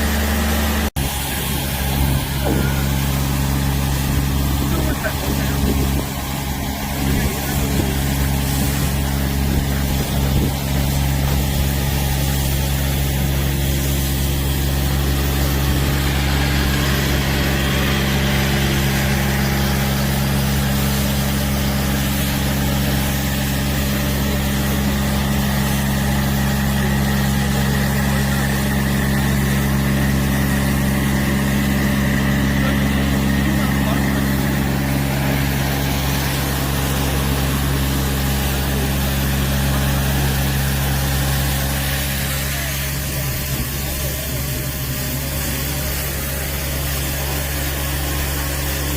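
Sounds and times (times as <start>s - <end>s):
loader engine running: 0.0s - 48.9s.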